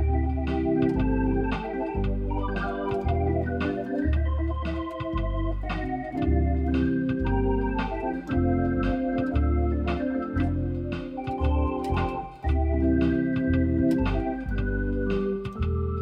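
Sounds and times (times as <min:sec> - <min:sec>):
organ playing: 0:00.0 - 0:16.0.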